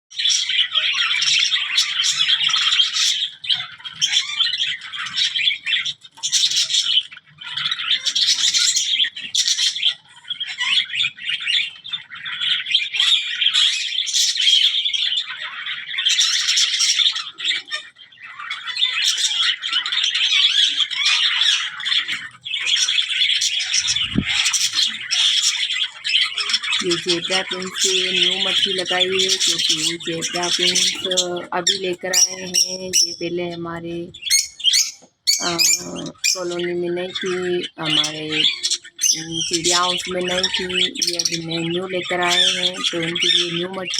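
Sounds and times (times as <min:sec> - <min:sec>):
finches and budgies chirping: 0:00.1 - 0:43.9.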